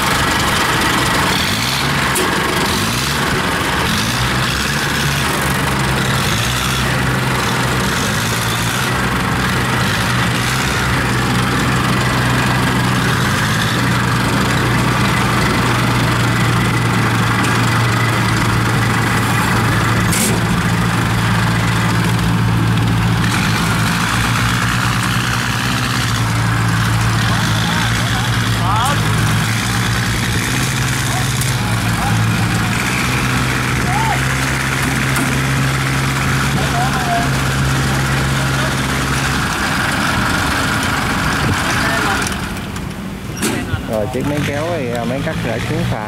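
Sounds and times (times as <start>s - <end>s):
diesel tractor engine running: 0.0s - 46.0s.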